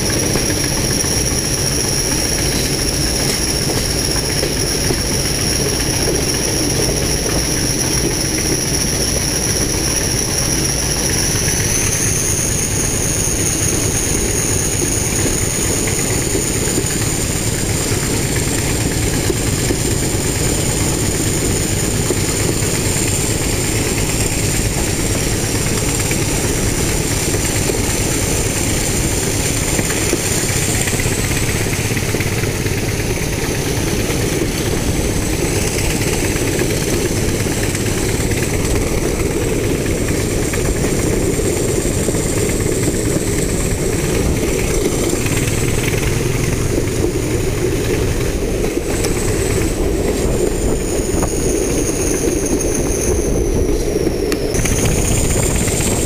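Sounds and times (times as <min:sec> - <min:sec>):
diesel locomotive engines working hard: 0:00.0 - 0:56.0.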